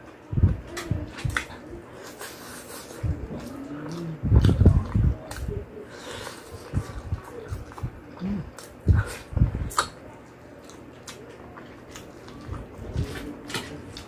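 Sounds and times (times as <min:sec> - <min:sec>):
chewing and biting: 0:00.6 - 0:10.0, 0:10.6 - 0:14.0.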